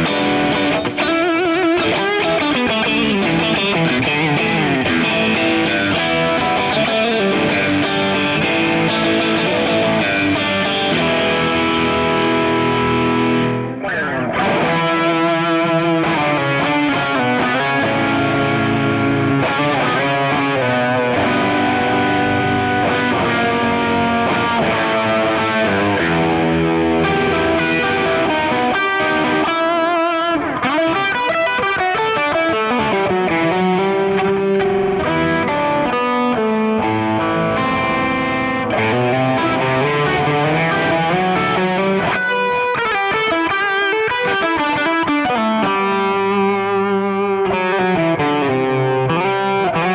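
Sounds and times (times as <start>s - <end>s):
overdriven electric guitar: 0.0s - 49.9s.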